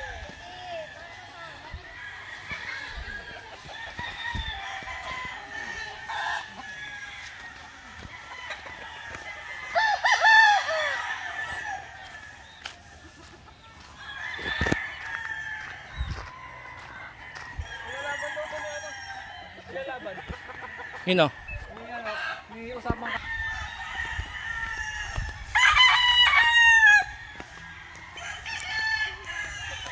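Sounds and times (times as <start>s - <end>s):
roosters crowing: 0.0s - 29.9s.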